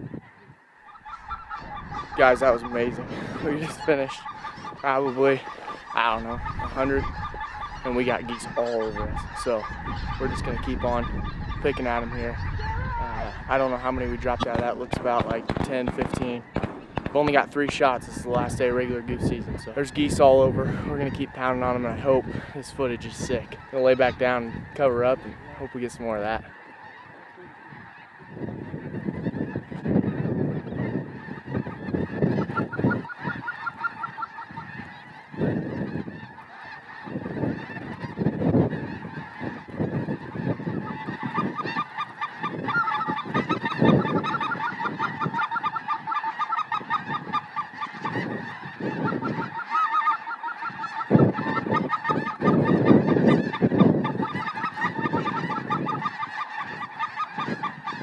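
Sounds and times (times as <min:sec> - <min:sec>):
geese honking: 0:00.0 - 0:58.0.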